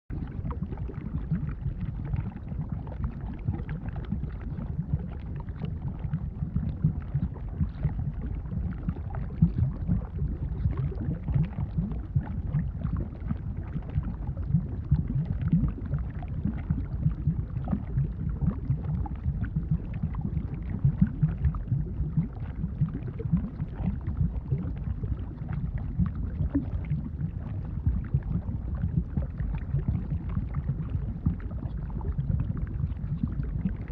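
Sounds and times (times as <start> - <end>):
thick bubbling lava: 0.1 - 33.9.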